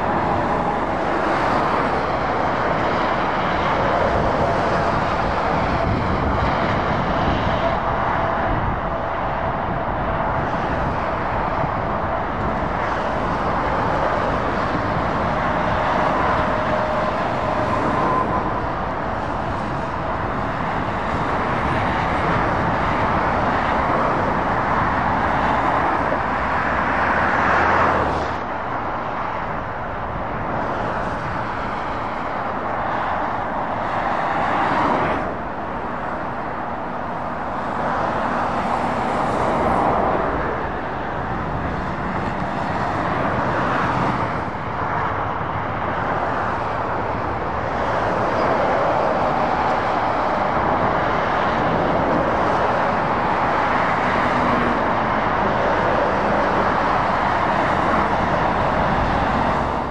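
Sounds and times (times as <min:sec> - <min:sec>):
motorway traffic passing: 0:00.0 - 0:59.9.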